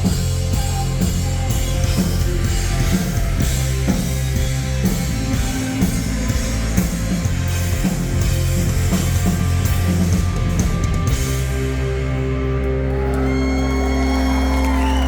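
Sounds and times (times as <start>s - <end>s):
drums and cymbals: 0.0s - 12.4s
rock band playing live: 0.0s - 15.0s.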